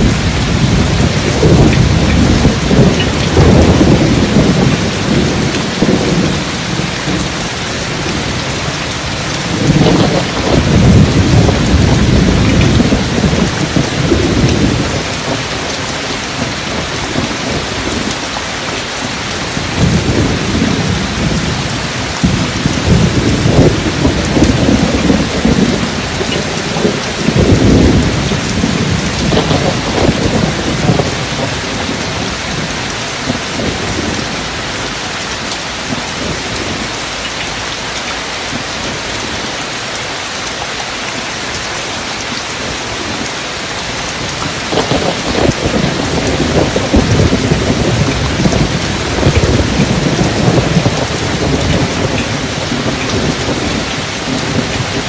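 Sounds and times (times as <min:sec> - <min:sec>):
deep rolling thunder: 0:00.0 - 0:39.6, 0:42.1 - 0:55.0
steady rain falling: 0:00.0 - 0:55.0.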